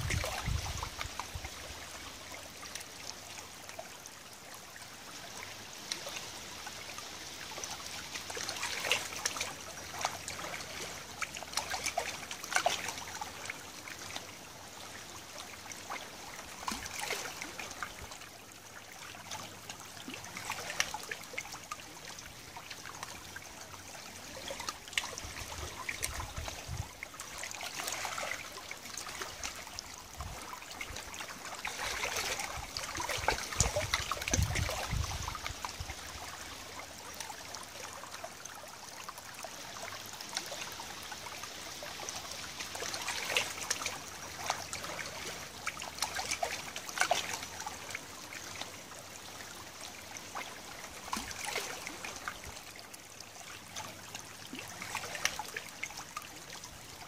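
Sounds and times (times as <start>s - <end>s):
river water trickling over stones: 0.0s - 57.0s
small water splashes: 0.0s - 57.0s.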